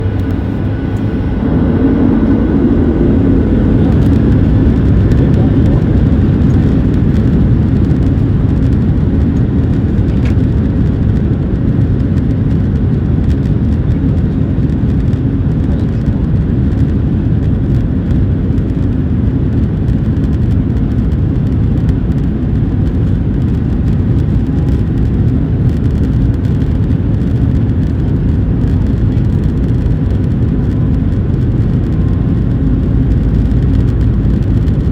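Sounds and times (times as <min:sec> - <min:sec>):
jet engines at takeoff power: 0:00.0 - 0:34.9.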